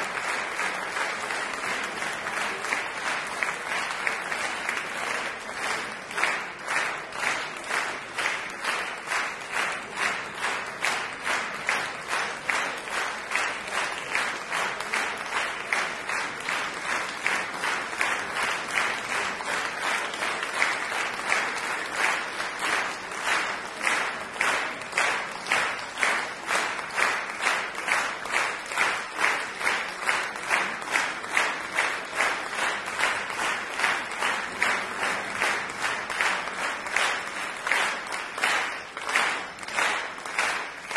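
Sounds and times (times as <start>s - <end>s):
audience clapping in unison: 0.0s - 40.9s.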